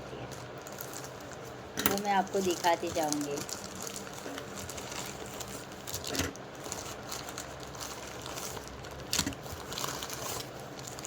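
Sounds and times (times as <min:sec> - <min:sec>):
packaging rustling and crinkling: 0:00.2 - 0:11.0.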